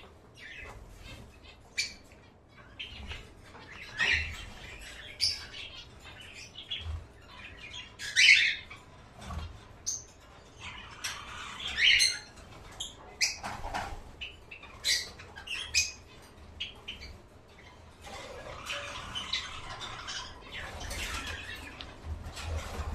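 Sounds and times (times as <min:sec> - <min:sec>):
caged birds chirping: 0:00.0 - 0:22.9.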